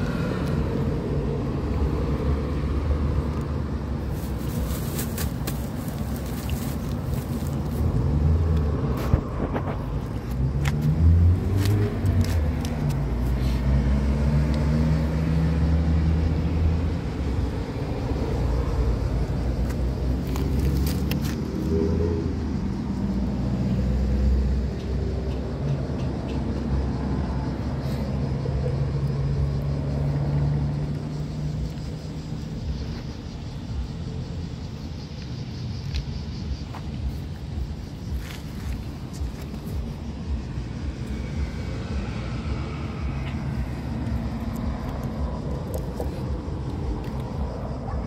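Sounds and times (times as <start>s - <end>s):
vehicle engine rumble: 0.0s - 48.0s.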